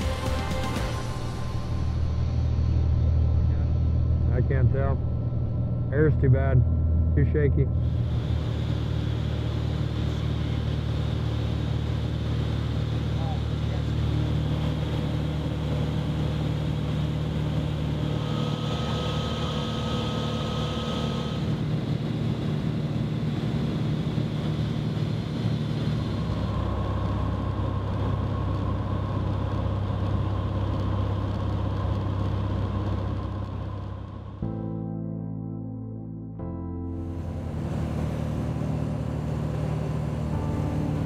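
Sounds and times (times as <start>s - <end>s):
light aircraft engine droning: 0.0s - 35.1s, 36.4s - 41.0s.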